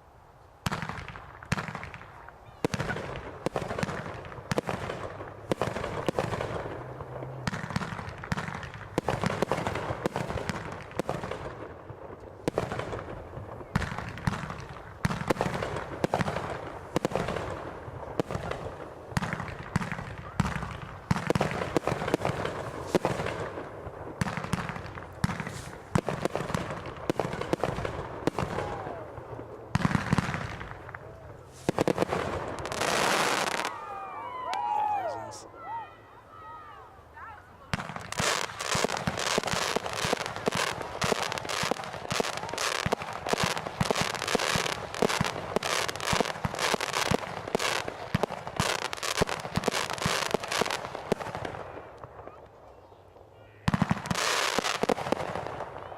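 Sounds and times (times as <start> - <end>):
fireworks crackling: 0.0 - 35.8, 36.4 - 55.9
fireworks bangs: 0.6 - 35.4, 37.7 - 52.8, 53.6 - 55.9.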